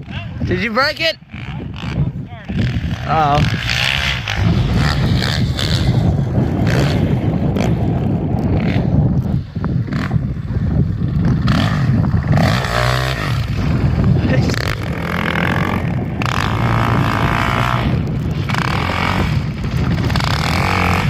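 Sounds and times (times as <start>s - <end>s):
dirt bike engine revving: 0.5s - 21.0s.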